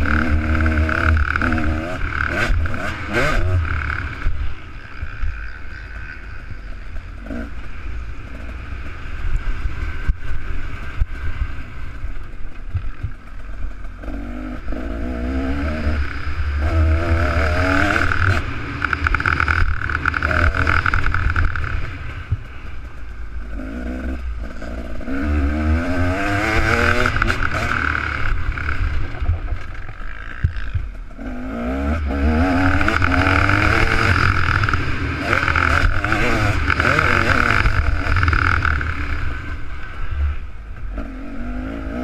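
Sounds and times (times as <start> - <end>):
motorbike engine revving: 0.0 - 12.0, 12.7 - 42.0.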